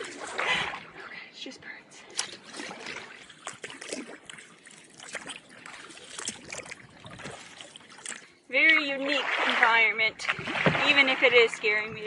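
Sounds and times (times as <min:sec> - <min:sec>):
paddle splashes: 0:00.0 - 0:01.0, 0:02.1 - 0:12.0
water dripping off paddle: 0:02.1 - 0:12.0.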